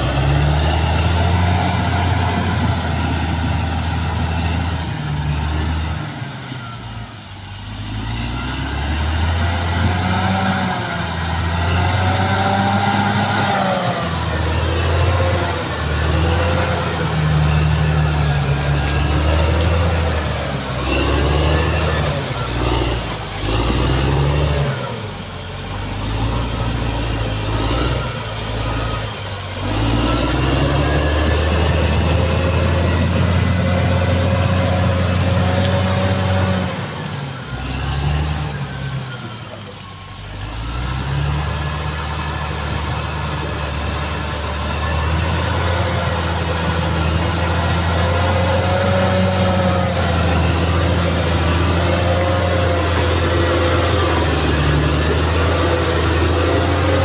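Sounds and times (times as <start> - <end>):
bulldozer diesel engine working: 0.0 - 57.0.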